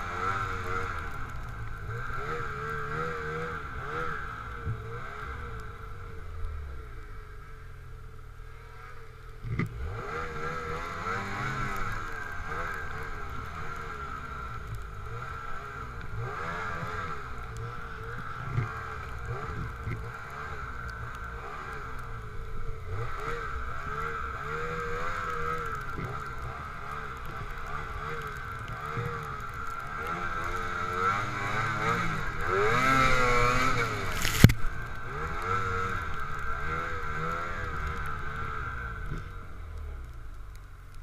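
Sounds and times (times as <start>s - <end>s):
snowmobile engine revving: 0.0s - 6.6s, 8.5s - 39.6s.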